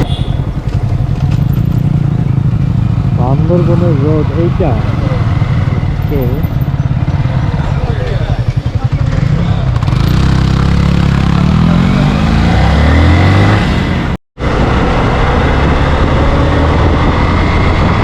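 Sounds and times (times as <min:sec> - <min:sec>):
motorcycle engine accelerating: 0:00.0 - 0:18.0
road noise: 0:00.0 - 0:18.0
rushing wind: 0:00.0 - 0:18.0.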